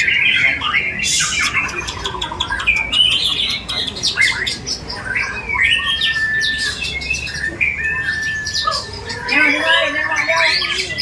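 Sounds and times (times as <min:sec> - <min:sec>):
many songbirds singing: 0:00.0 - 0:11.0.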